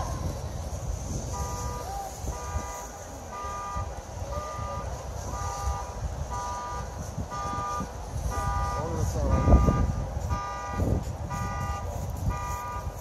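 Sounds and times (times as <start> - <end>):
car horn honking rhythmically: 1.1 - 13.0.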